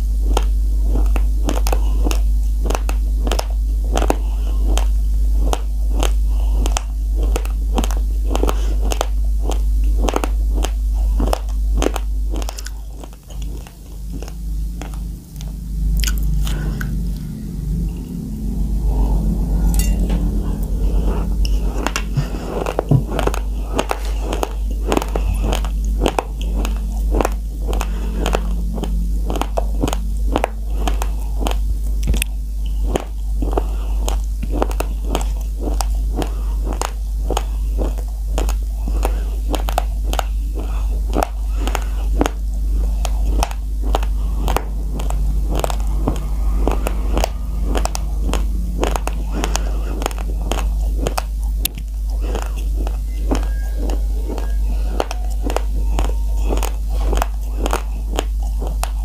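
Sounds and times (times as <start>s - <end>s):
constant low hum: 0.0s - 59.0s
crunching raw rice: 0.0s - 59.0s.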